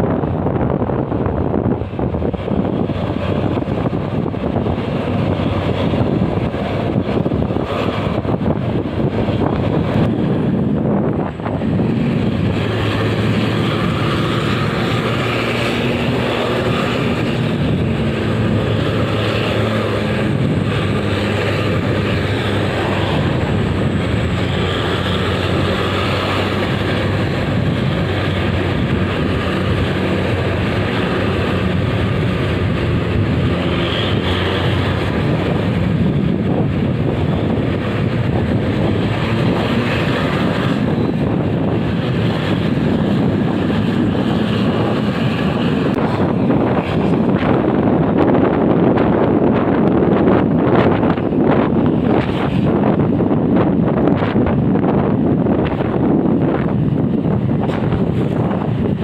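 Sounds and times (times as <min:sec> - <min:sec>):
engine hum: 0:00.0 - 0:59.0
tyre-on-road noise: 0:00.0 - 0:59.0.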